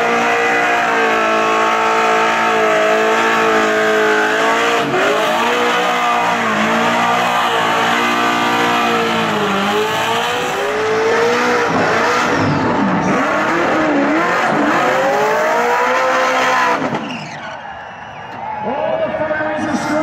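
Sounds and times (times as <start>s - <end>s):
engine revving high: 0.0s - 17.0s.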